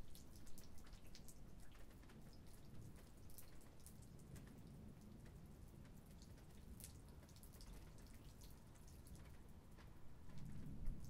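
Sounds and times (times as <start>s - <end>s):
light rain dripping: 0.0s - 11.0s.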